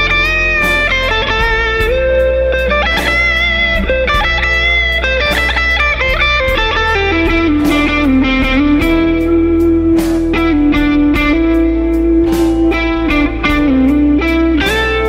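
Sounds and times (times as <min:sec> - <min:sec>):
backing track with bass and drums: 0:00.0 - 0:15.0
electric guitar blues lead: 0:00.0 - 0:15.0.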